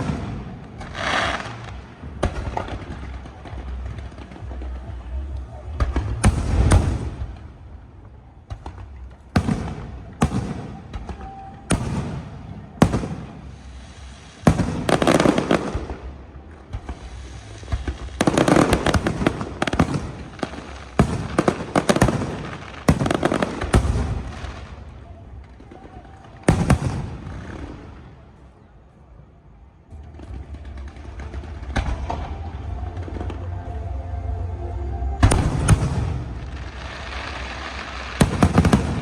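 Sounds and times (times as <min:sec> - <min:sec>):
fireworks bangs: 0:00.0 - 0:28.7, 0:29.9 - 0:33.9, 0:35.2 - 0:39.0
fireworks crackling: 0:00.0 - 0:39.0.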